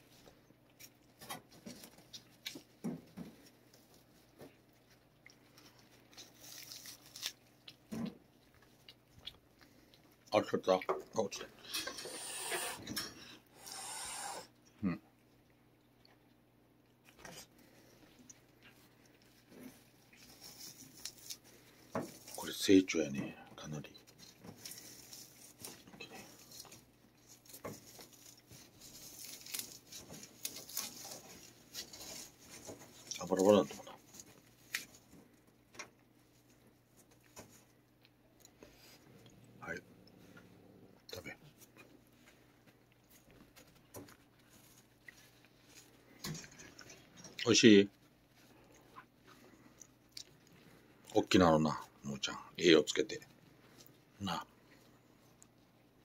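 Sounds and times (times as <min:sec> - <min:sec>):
cat chewing and licking: 0:00.0 - 0:13.8, 0:14.5 - 0:22.8, 0:23.9 - 0:51.3.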